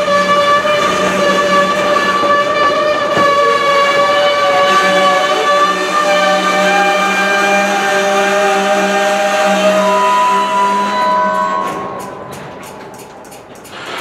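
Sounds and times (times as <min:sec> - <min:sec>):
train wheels and brakes squealing: 0:00.0 - 0:14.0.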